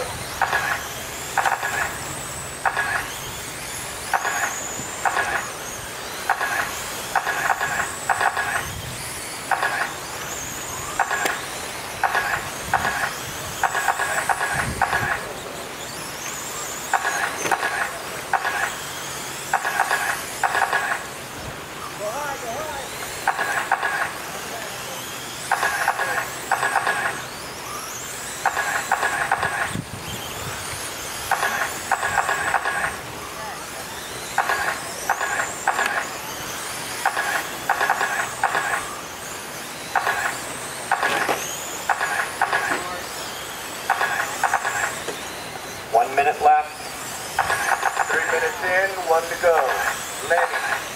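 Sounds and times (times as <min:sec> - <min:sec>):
high motor whine: 0:00.0 - 0:50.9
rapid chattering pulses: 0:00.0 - 0:50.9
rc cars buzzing on dirt: 0:00.0 - 0:50.9.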